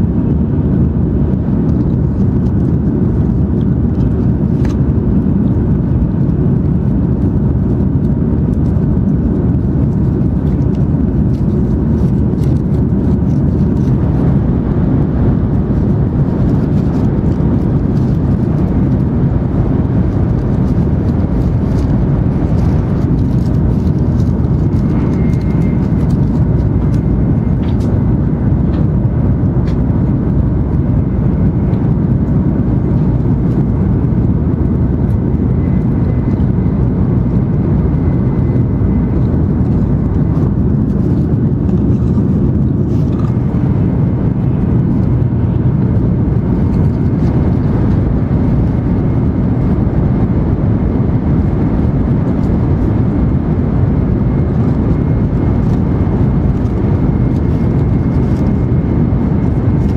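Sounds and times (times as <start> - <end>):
low train cabin rumble: 0.0 - 59.9.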